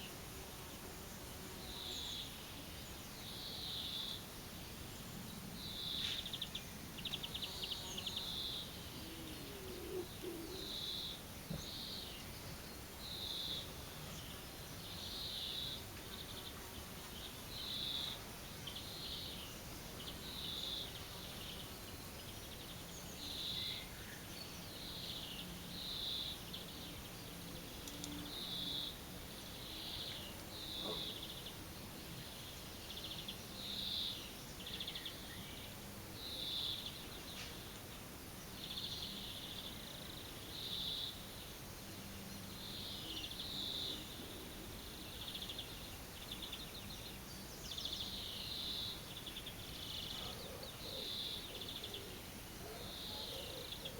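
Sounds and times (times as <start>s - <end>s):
outdoor background hiss: 0.0s - 53.9s.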